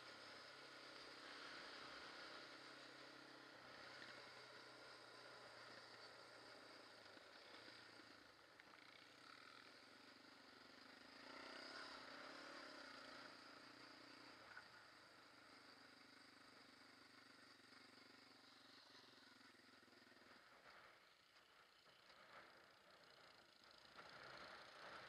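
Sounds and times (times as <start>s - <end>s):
quad engine running: 0.0s - 25.0s.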